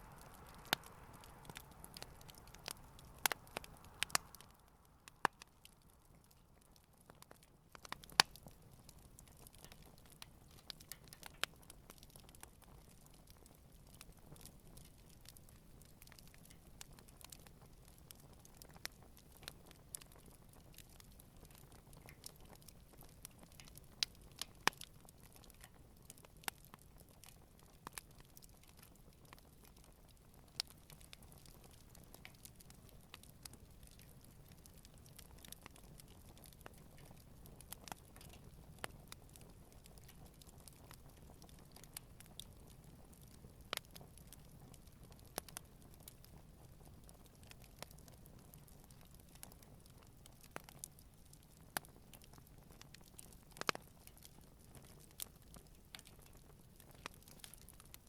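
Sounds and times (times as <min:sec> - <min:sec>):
campfire crackling and popping: 0:00.0 - 0:58.0
faint low hiss: 0:00.0 - 0:58.0.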